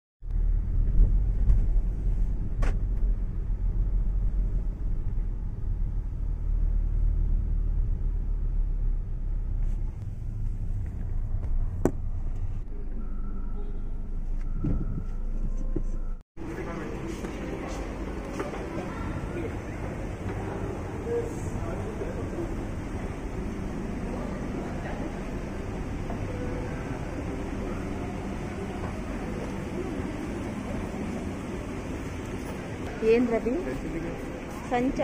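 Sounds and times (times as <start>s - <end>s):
car engine and road rumble: 0.3s - 34.6s.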